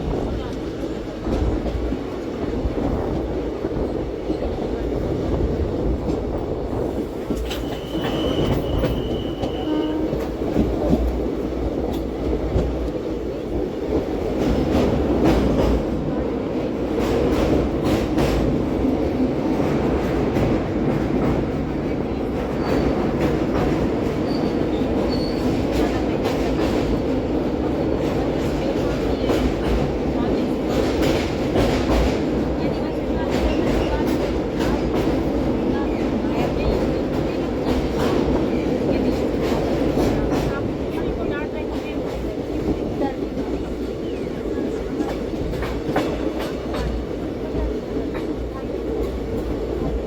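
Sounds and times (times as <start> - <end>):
train running at speed: 0.0 - 50.0.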